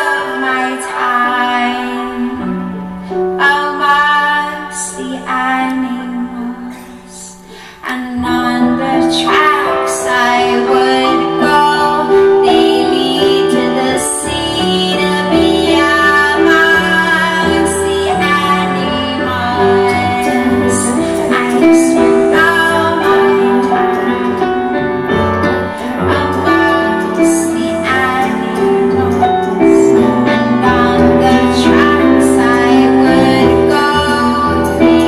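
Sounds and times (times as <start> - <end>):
piano accompaniment: 0.0 - 35.0
woman singing long notes: 3.4 - 35.0.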